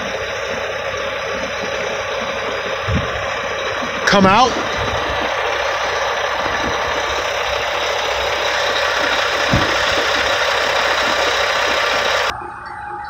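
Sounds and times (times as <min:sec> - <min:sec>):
truck engine driving air blower: 0:00.0 - 0:12.3.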